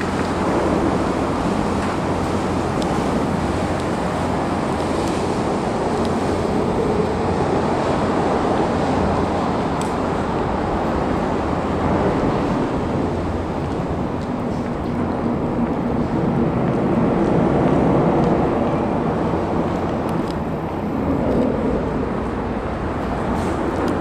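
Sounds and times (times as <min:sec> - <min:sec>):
engine drone: 0:00.0 - 0:24.0
road traffic rumble: 0:00.0 - 0:24.0.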